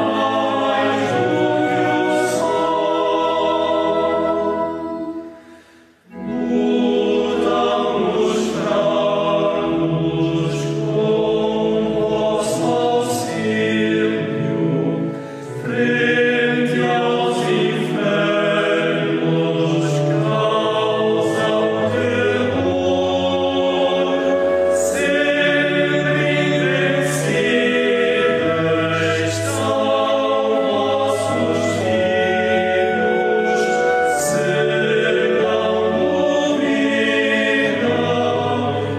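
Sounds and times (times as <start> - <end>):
male choir singing a hymn: 0.0 - 38.9.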